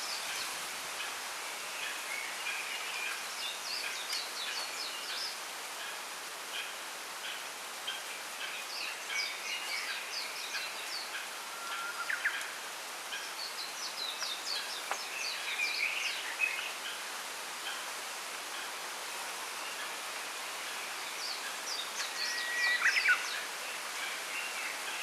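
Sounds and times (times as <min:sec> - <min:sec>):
bamboo rustling in wind: 0:00.0 - 0:25.0
songbirds chirping: 0:00.0 - 0:25.0.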